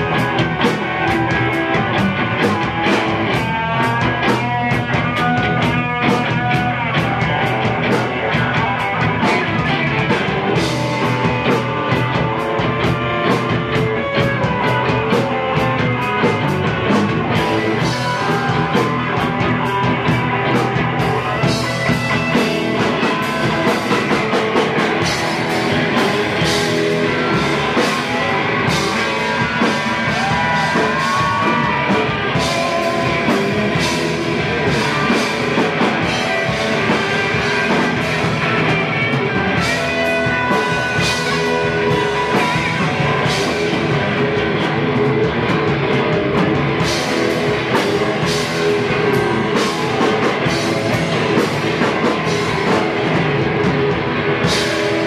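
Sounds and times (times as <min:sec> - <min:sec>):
drum kit with cymbal crashes: 0:00.0 - 0:55.0
electric guitars: 0:00.0 - 0:55.0.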